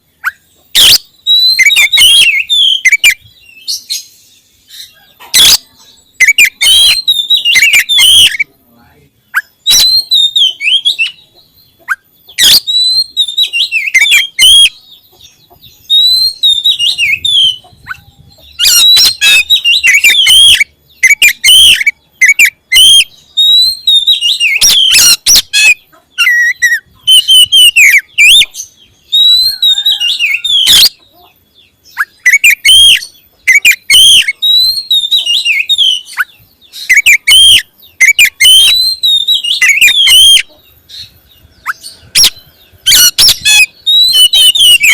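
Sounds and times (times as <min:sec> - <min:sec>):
songbird singing whistled phrases: 0:00.1 - 0:08.5, 0:09.2 - 0:44.9.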